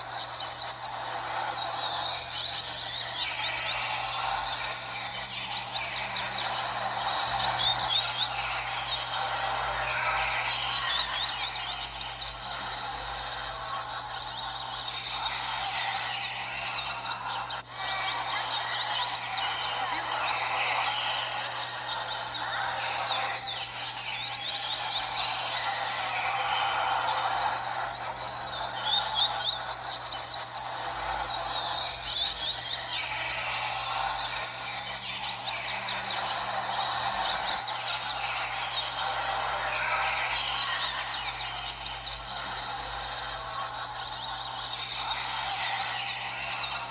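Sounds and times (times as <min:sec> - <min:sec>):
low background hum: 0:00.0 - 0:46.9
many birds singing chatter: 0:00.0 - 0:46.9.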